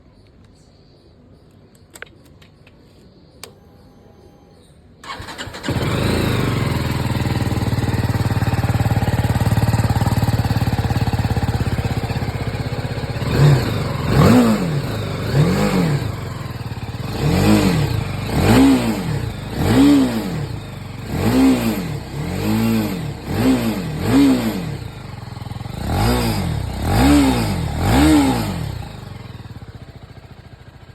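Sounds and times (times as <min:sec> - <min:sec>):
motorcycle engine revving: 0:05.0 - 0:30.9.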